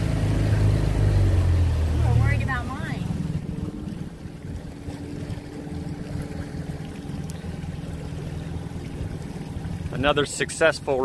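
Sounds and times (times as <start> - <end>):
outboard motor humming: 0.0 - 11.0
water noise: 0.0 - 11.0.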